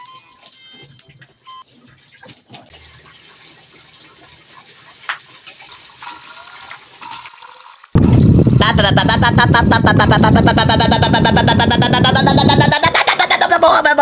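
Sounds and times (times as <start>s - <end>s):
water running into a tub: 1.7s - 14.0s.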